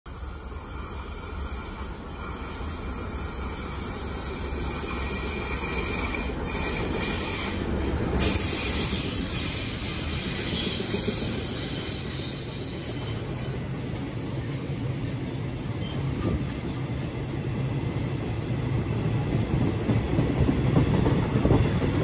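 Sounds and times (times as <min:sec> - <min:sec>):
diesel locomotive rumbling: 0:00.1 - 0:22.0
train wheels on rails: 0:00.1 - 0:22.0.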